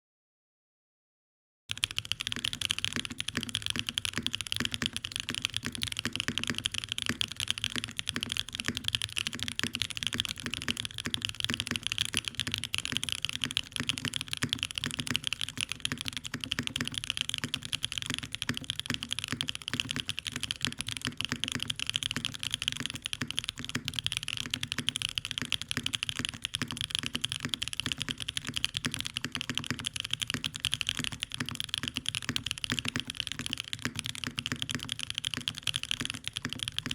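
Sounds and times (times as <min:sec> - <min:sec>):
mechanical keyboard typing: 0:01.7 - 0:36.9.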